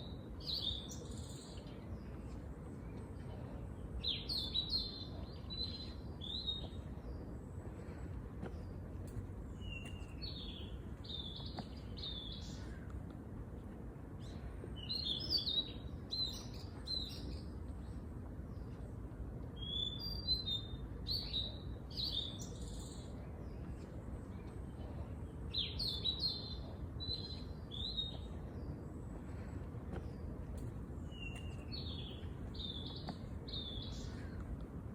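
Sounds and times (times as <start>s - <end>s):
songbird chirping and trilling: 0.0s - 13.0s, 14.1s - 18.8s, 19.4s - 34.6s
low background rumble: 0.0s - 34.9s.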